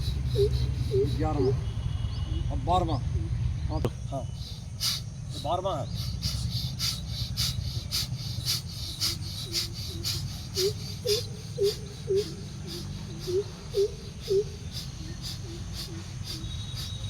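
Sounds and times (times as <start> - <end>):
rapid forceful breathing: 0.0 - 1.9, 4.2 - 17.0.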